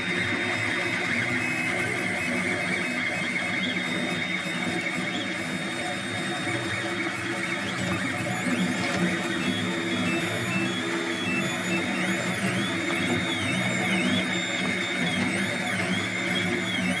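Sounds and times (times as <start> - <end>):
steady whir: 0.0 - 17.0
stepper motors whining: 0.0 - 17.0.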